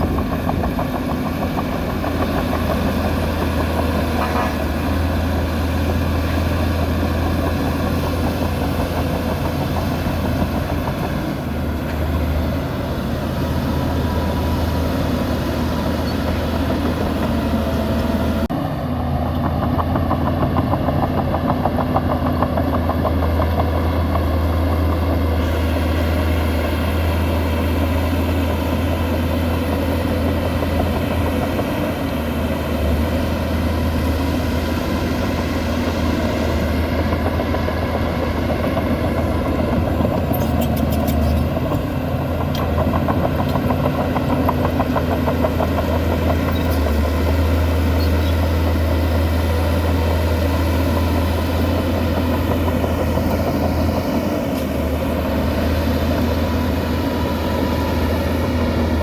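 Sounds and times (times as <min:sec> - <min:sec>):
heavy diesel engine droning: 0:00.0 - 0:59.0.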